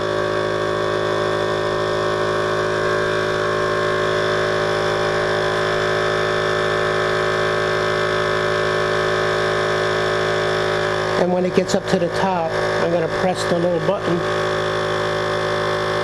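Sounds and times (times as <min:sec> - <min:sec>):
vacuum pump humming: 0:00.0 - 0:16.0.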